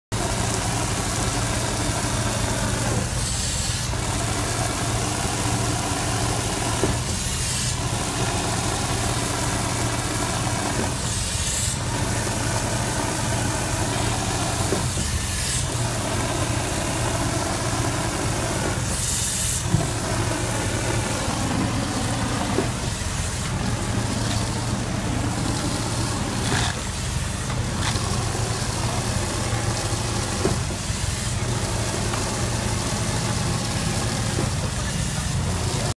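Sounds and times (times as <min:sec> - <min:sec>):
concrete pump engine running: 0:00.1 - 0:35.9.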